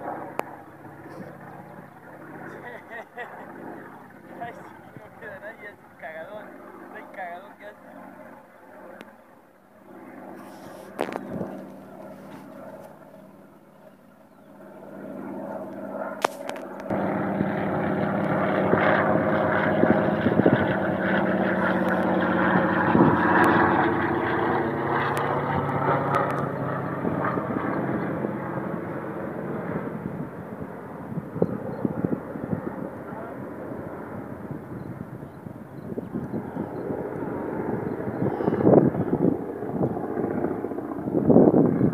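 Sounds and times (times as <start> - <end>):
propeller plane engine drone: 0.0 - 41.9.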